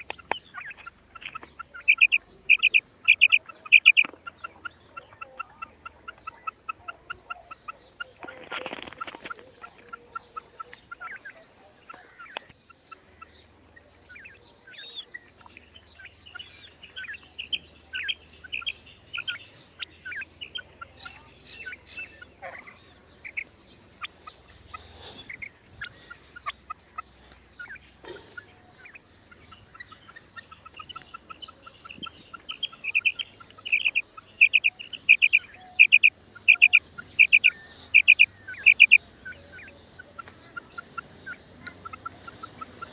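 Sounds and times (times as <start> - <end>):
quail calling: 0.0 - 42.9.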